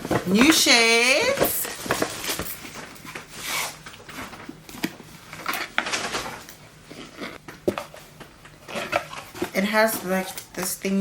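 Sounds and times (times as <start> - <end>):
packaging rustling: 1.2 - 10.6.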